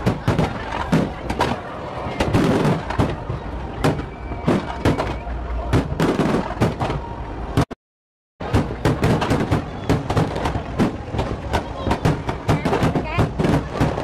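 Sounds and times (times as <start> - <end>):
fireworks bursting: 0.0 - 7.7, 8.4 - 14.0.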